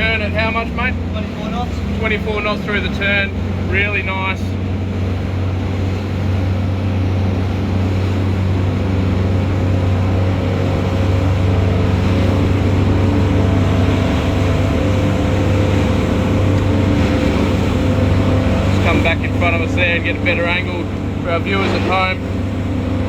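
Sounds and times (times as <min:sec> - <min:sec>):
outboard engines droning: 0:00.0 - 0:23.0
water rushing: 0:00.0 - 0:23.0.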